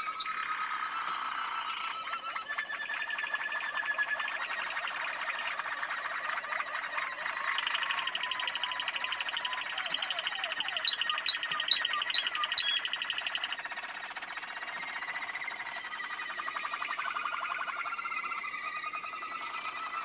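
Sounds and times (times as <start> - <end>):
canaries singing trilled song: 0.0 - 20.0.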